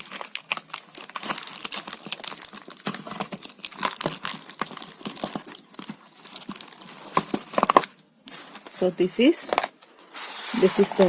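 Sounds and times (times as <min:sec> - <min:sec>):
tape and plastic crinkling: 0:00.0 - 0:11.0.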